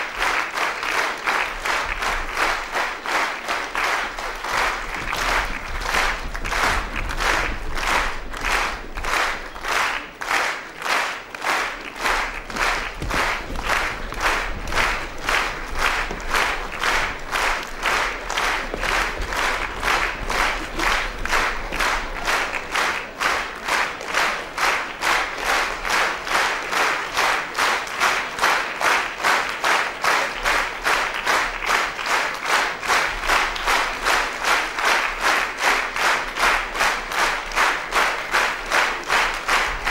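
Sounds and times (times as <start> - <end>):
audience clapping in unison: 0.0 - 39.9.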